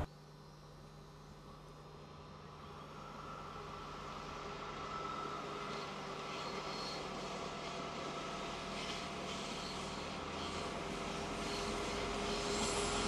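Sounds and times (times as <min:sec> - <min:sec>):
railcar engine hum: 0:00.0 - 0:13.0.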